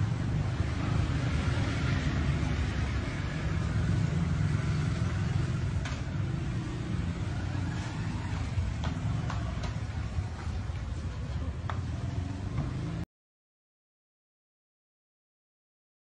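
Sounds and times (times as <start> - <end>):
cars passing: 0.0 - 13.0
motor scooter passing: 0.0 - 13.0.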